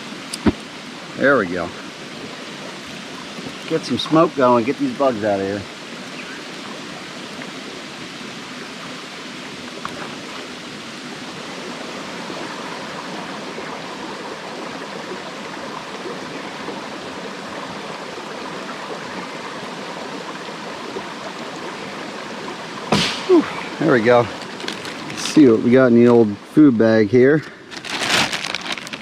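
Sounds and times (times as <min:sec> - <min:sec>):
steady rushing water: 0:00.0 - 0:29.0.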